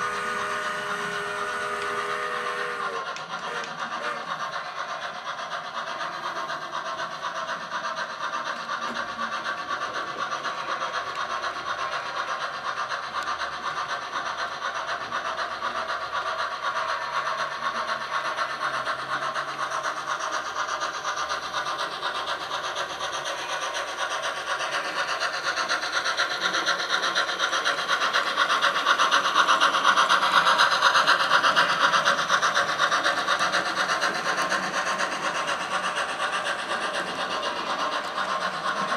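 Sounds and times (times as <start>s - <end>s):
model train rattling on rails: 0.0s - 38.9s.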